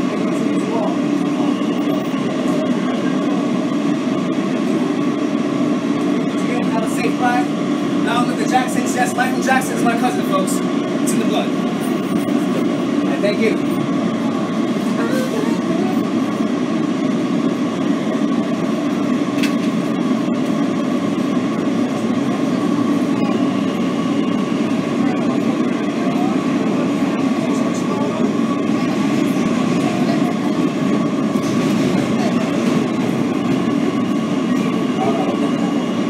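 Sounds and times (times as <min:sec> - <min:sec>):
steady high hum: 0:00.0 - 0:36.0
subway wheels rumbling on rail: 0:00.0 - 0:36.0.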